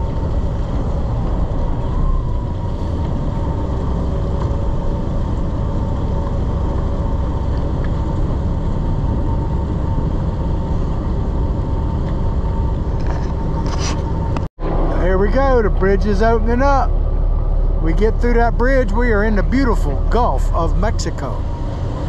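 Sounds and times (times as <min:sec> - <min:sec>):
boat engines droning: 0:00.0 - 0:22.0
wind rumbling on microphone: 0:00.0 - 0:22.0.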